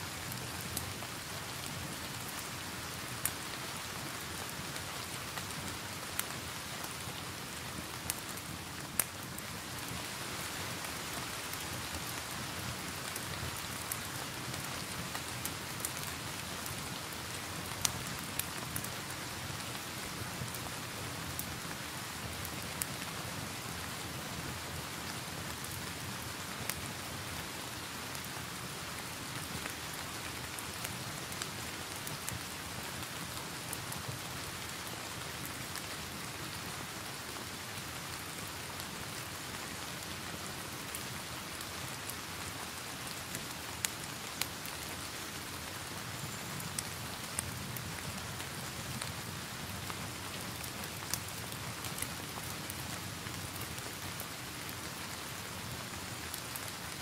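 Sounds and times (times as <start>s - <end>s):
steady rain hiss: 0.0s - 57.0s
log fire crackling and popping: 0.2s - 57.0s.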